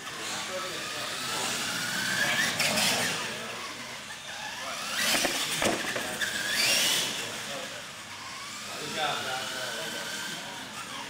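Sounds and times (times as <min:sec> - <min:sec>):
toy truck electric motor whining: 0:00.0 - 0:11.0.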